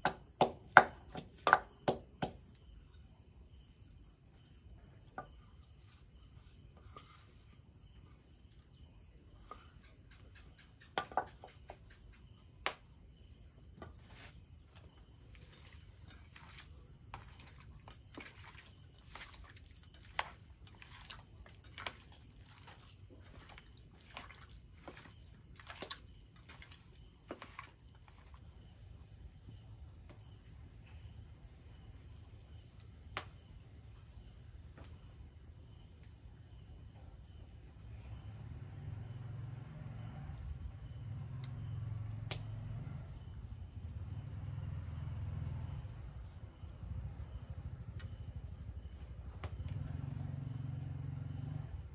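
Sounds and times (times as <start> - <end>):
insects chirping: 0.0 - 51.9.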